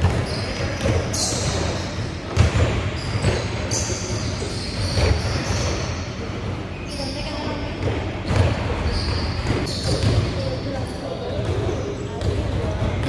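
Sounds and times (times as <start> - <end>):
basketballs bouncing on wooden floor: 0.0 - 6.6, 7.7 - 13.0.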